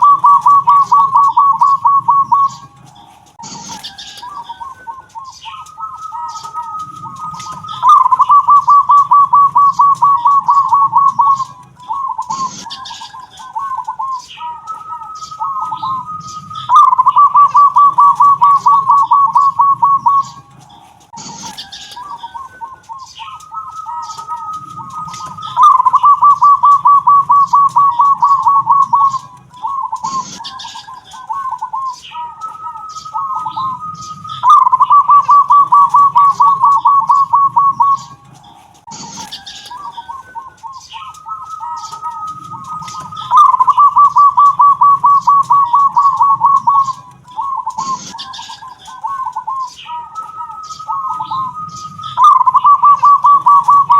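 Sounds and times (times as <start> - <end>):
dove cooing trill: 0.0 - 53.9.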